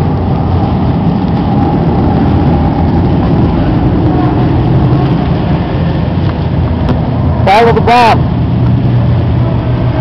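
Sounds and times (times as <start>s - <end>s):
low rumble and rubbing on microphone: 0.0s - 10.0s.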